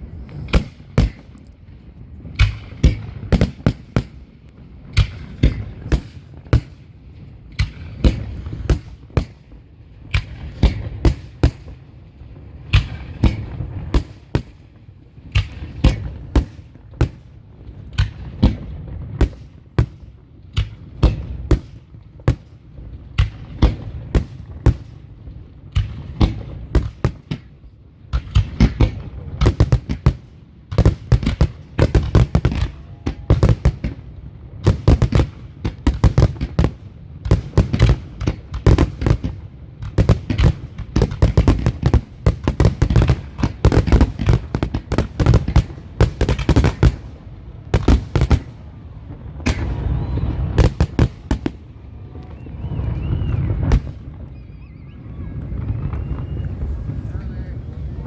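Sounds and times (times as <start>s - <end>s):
fireworks bursts and crackles: 0.0s - 58.0s
fireworks rumble: 0.0s - 58.0s.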